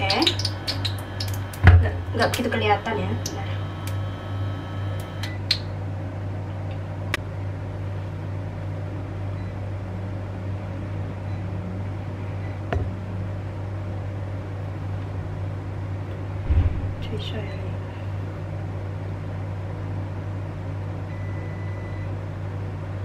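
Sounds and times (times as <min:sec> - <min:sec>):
cooktop electrical hum: 0:00.0 - 0:23.0
fan noise: 0:00.0 - 0:23.0.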